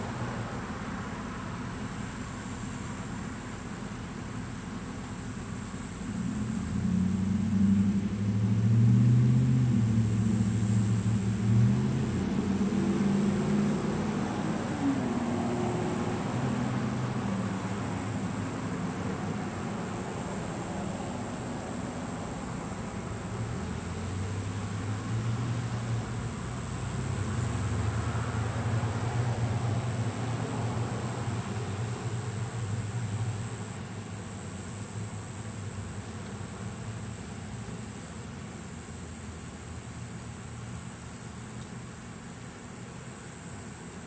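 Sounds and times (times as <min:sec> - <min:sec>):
engine humming: 0:00.0 - 0:42.5
steady high hiss: 0:00.0 - 0:44.0.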